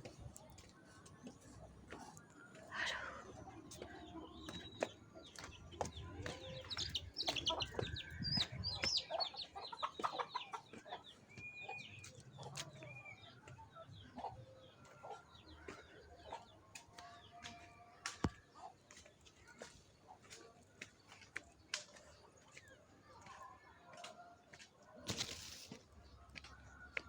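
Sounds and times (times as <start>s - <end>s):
chickens clucking: 0.6s - 27.0s.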